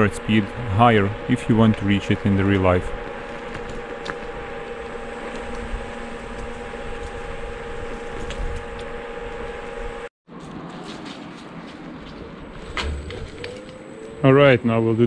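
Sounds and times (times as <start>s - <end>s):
electric scooter motor whine: 0.0s - 10.1s, 12.3s - 15.0s
wind and tire noise: 0.0s - 15.0s.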